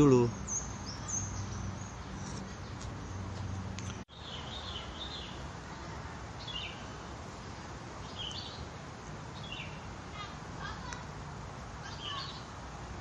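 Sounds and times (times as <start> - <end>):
birds chirping: 0.0 - 11.0, 11.8 - 12.6
outdoor background noise: 0.0 - 13.0.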